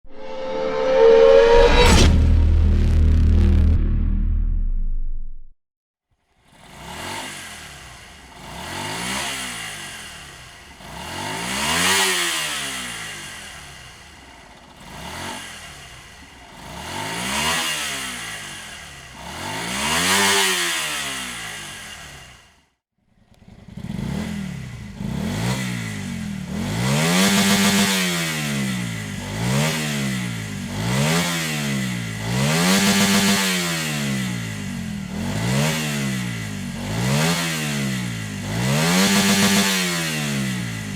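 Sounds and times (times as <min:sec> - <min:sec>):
motorcycle engine revving: 0:06.3 - 0:22.6, 0:23.2 - 0:40.9.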